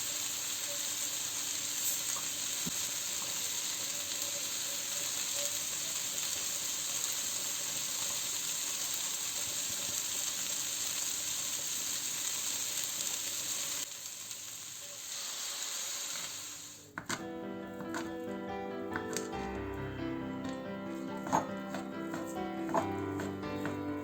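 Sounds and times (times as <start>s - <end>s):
food sizzling in a frying pan: 0.0s - 17.0s, 19.0s - 24.0s.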